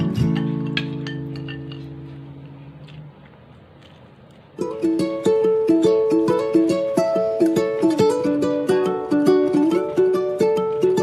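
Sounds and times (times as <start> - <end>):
plucked string music: 0.0 - 2.6, 4.6 - 11.0.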